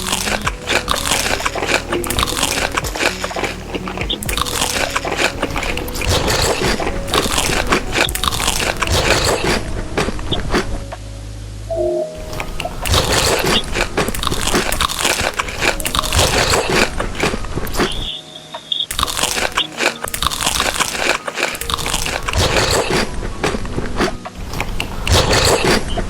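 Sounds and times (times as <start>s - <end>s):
crunchy food being chewed: 0.0s - 10.8s, 12.4s - 18.2s, 18.8s - 26.0s.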